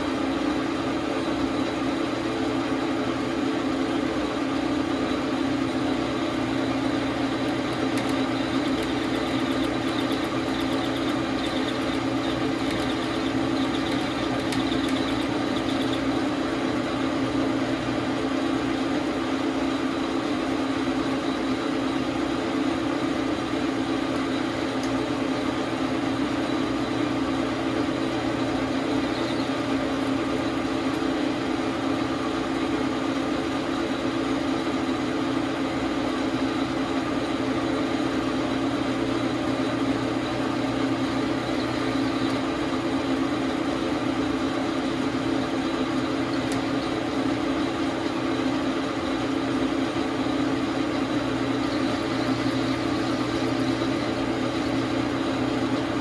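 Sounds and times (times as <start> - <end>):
metal lathe running: 0.1 - 56.0.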